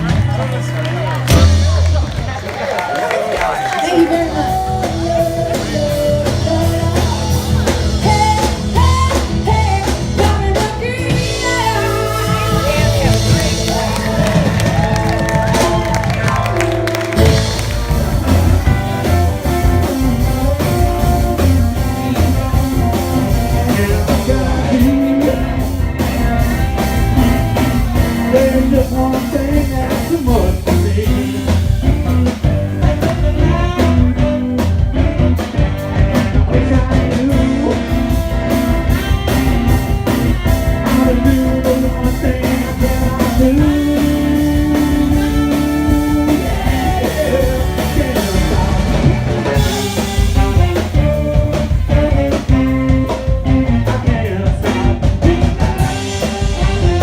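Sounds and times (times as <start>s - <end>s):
blues-rock band playing: 0.0s - 57.0s
person singing: 3.7s - 57.0s.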